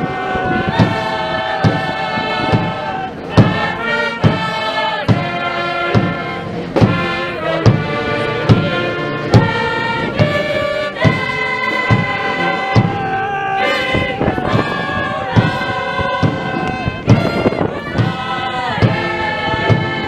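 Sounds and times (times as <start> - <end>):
brass band playing a march: 0.0 - 20.0
chorus of voices singing: 0.0 - 20.0
drum beat: 0.0 - 20.0.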